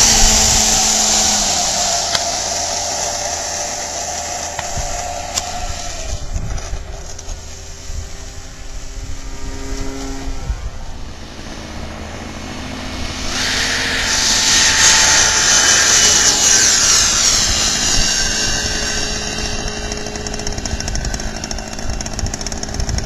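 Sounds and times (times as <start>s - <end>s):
electric ducted fan whine: 0.0s - 23.0s
rush of air: 0.0s - 23.0s.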